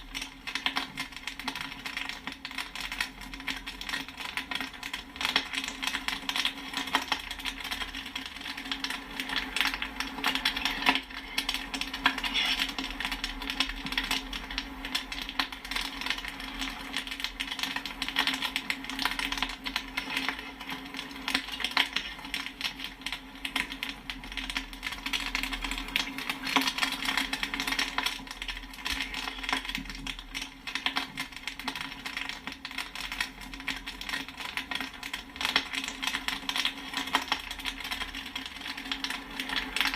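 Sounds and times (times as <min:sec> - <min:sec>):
popcorn kernels popping: 0:00.0 - 0:39.9.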